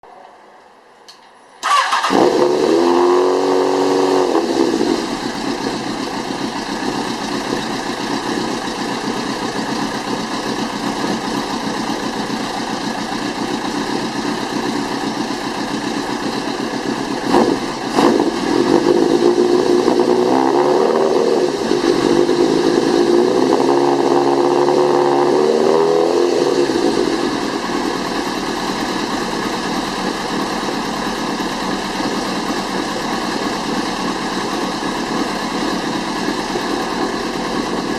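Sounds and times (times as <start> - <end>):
motorcycle engine idling and revving: 1.6 - 37.9.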